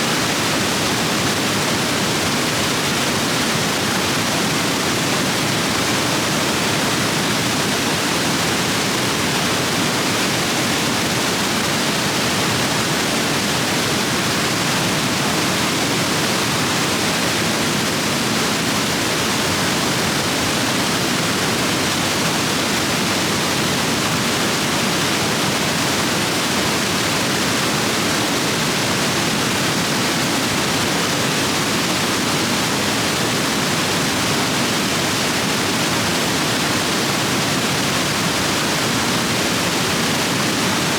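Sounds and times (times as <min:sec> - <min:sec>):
stream rapids roaring over rocks: 0:00.0 - 0:40.9.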